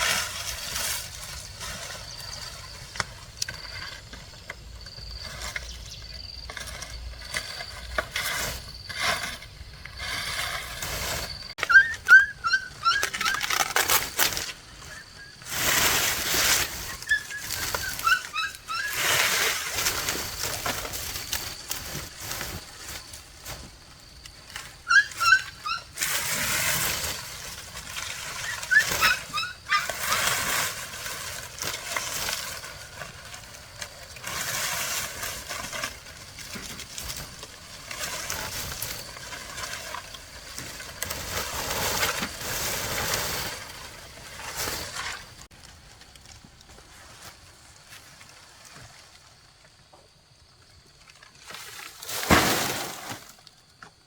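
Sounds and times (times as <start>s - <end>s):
loud scraping and rustling: 0.0s - 45.9s.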